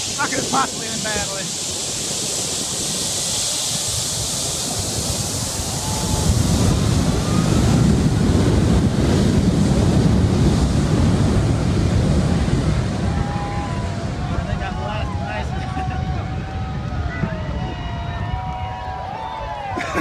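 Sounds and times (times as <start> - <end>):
jet blast buffeting microphone: 0.0 - 20.0
jet engines at takeoff thrust: 0.0 - 20.0.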